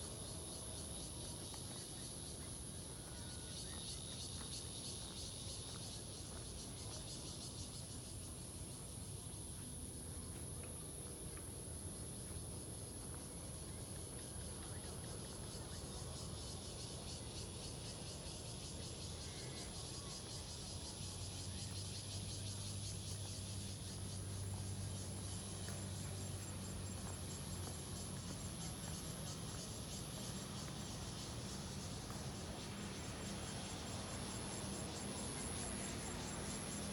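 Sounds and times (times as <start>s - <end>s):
insects chirping: 0.0s - 36.9s.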